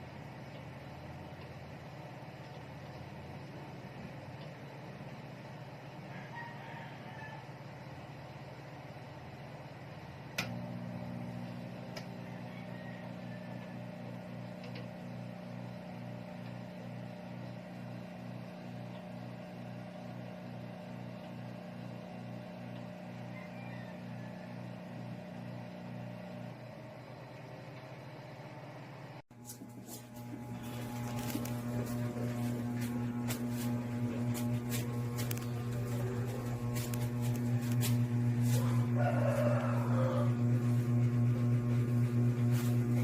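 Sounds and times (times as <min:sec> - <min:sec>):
microwave oven humming: 0:00.0 - 0:43.0.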